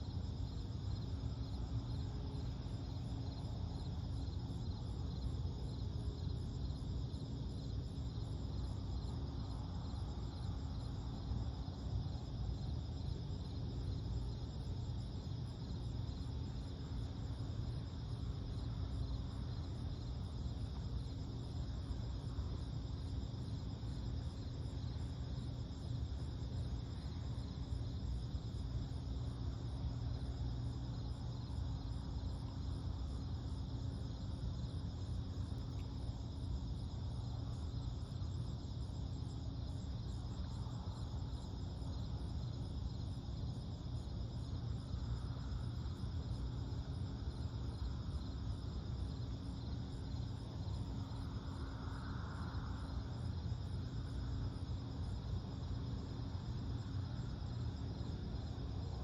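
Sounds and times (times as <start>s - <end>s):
constant low hum: 0.0s - 59.0s
crickets chirring: 0.0s - 59.0s.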